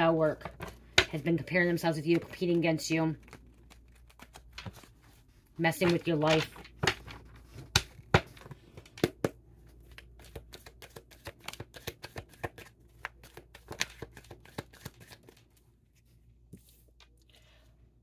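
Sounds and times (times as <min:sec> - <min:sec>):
cards being shuffled: 0:00.4 - 0:15.6.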